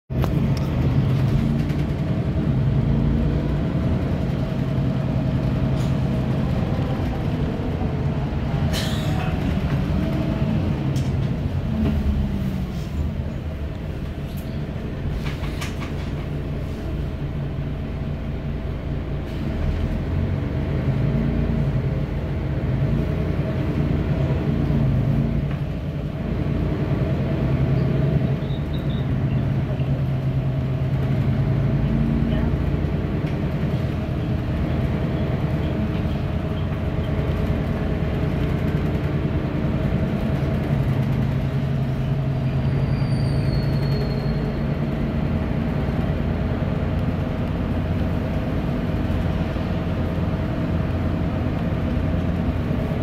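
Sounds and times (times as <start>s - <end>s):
bus diesel engine running: 0.1s - 53.0s
tyre and road noise: 0.1s - 53.0s.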